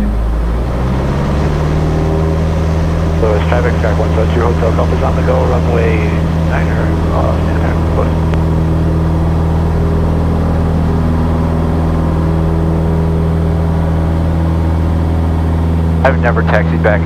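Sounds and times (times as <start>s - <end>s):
airplane engine and propeller drone: 0.0s - 17.0s.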